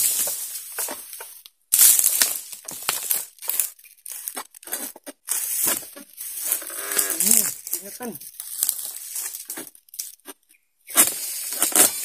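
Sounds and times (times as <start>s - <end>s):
fronds rustling: 0.0s - 12.0s
blade rasping through stalks: 2.1s - 12.0s.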